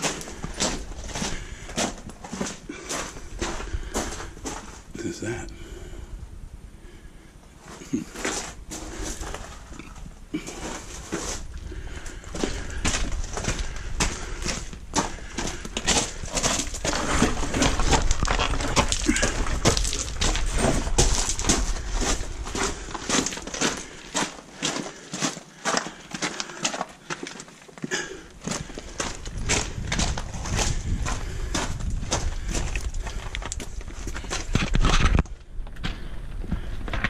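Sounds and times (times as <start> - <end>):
footsteps on a trail: 0.0 - 5.8, 7.6 - 37.0.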